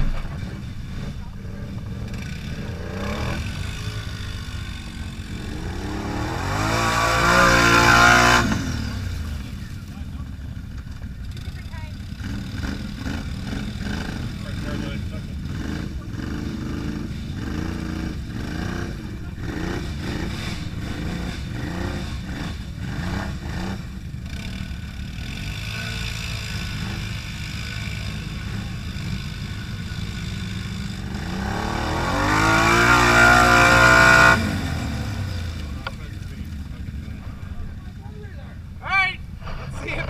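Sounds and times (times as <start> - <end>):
atv engine revving: 0.0 - 40.0.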